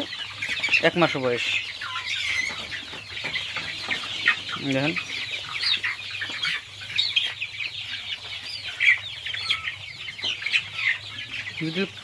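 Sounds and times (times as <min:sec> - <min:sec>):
chicks clucking and cheeping: 0:00.0 - 0:12.0.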